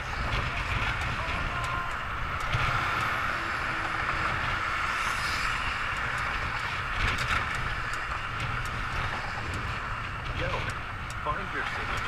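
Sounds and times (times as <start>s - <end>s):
car traffic hum: 0.0s - 12.0s
wind rushing over microphone: 0.0s - 12.0s.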